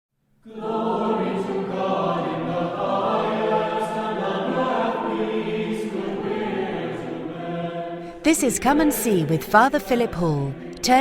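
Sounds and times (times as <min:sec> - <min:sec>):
choir singing unaccompanied: 0:00.4 - 0:11.0.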